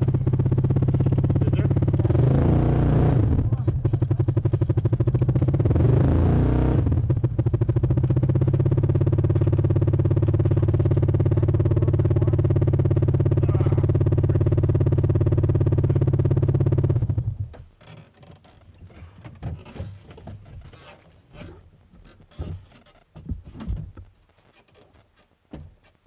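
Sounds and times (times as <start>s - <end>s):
engine running: 0.0s - 21.6s.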